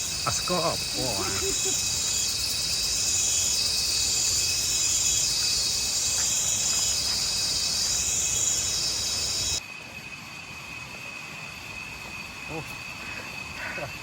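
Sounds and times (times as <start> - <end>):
insects shrilling: 0.0 - 14.0.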